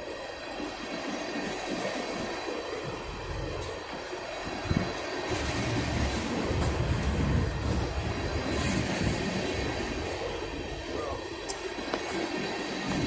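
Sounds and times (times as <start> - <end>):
freight train rumbling past: 0.0 - 13.0
train car clank: 0.8 - 10.5, 11.3 - 13.0.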